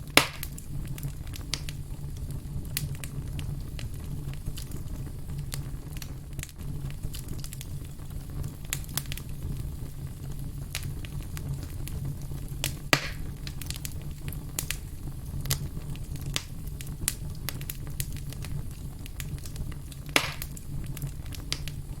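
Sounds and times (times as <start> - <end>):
loud fire pops with hiss: 0.0 - 22.0
wood fire crackling: 0.0 - 22.0.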